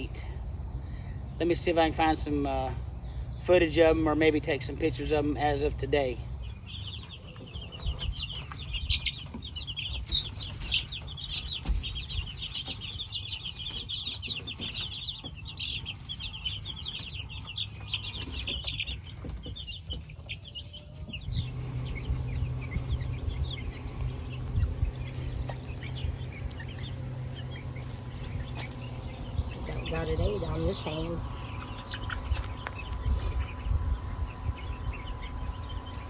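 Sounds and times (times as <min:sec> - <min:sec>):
chicks peeping and clucking: 0:00.0 - 0:36.0
steady low hum: 0:00.0 - 0:36.0.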